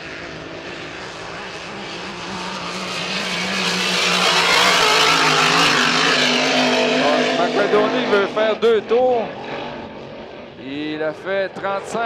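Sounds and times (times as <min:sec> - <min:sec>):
racing boat engine roaring: 0:00.0 - 0:12.0.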